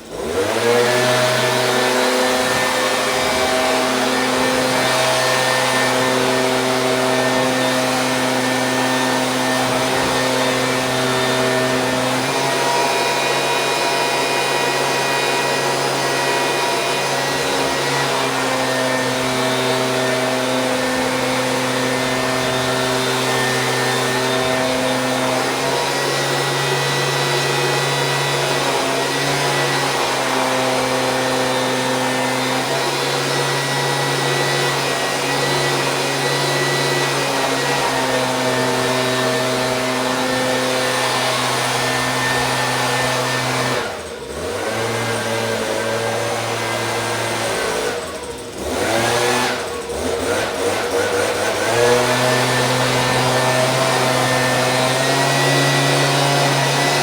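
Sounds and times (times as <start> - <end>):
leaf blower engine running: 0.0 - 57.0.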